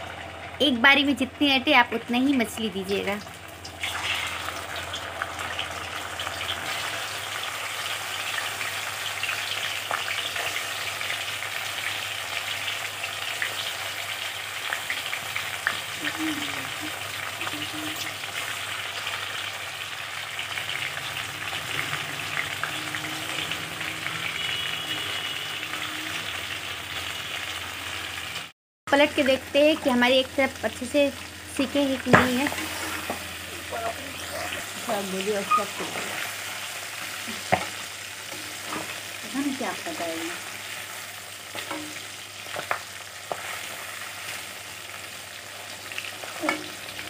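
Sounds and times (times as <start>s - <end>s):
fish sizzling in hot oil: 0.0s - 47.0s.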